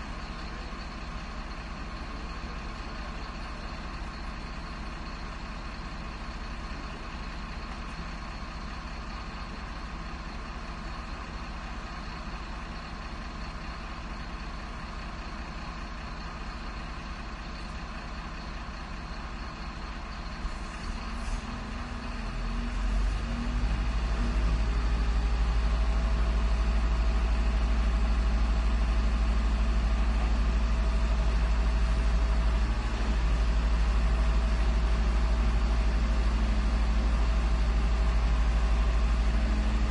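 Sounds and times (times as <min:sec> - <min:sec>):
garbage truck engine idling: 0:00.0 - 0:39.9.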